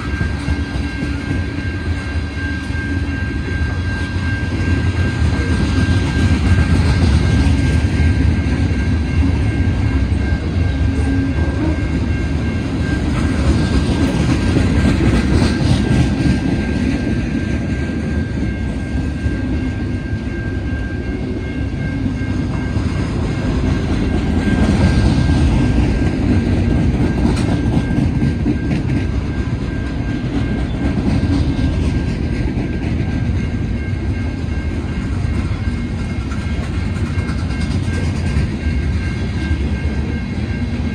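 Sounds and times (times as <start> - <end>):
steel train wheels rumbling on rail: 0.0 - 40.9.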